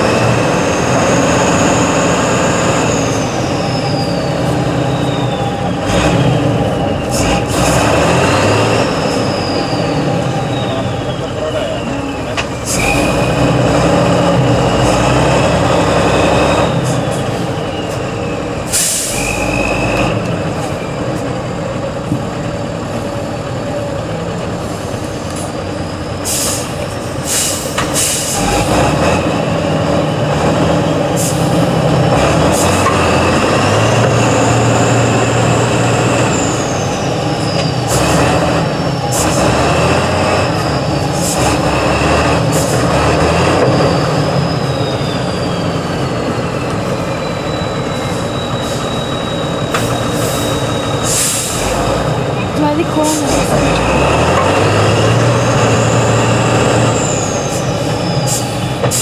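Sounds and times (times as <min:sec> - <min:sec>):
diesel truck engine working hard: 0:00.0 - 0:59.0.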